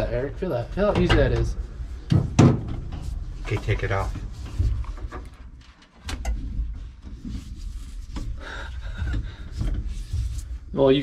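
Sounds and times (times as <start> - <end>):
knocking and rubbing handling noise: 0.0 - 11.0.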